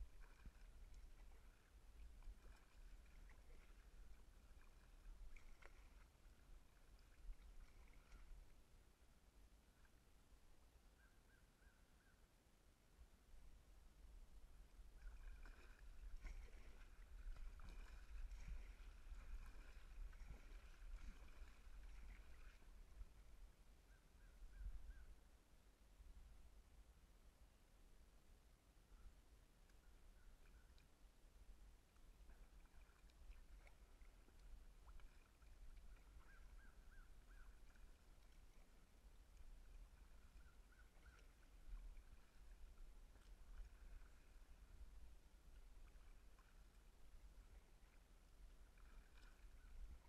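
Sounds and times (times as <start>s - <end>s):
muffled kayak paddle strokes: 0.0s - 10.0s, 14.2s - 25.2s, 28.9s - 50.0s.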